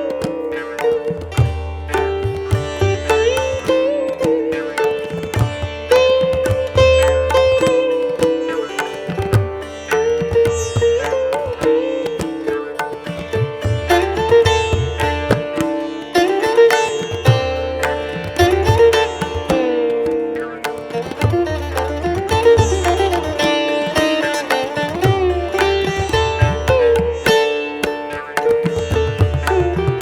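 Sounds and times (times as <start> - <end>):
plucked string melody: 0.0 - 30.0.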